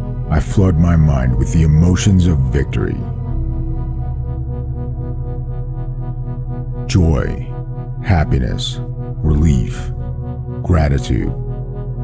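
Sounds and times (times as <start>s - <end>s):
ambient electronic music: 0.0s - 12.0s.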